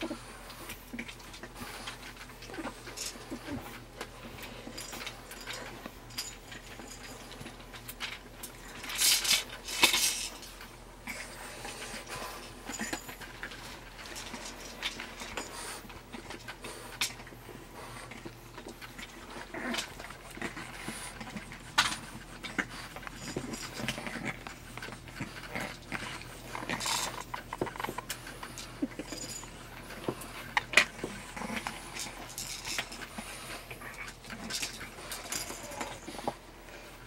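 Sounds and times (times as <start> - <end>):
plastic toys clicking and rattling: 0.0 - 37.0
puppies breathing and mouthing: 0.0 - 37.0.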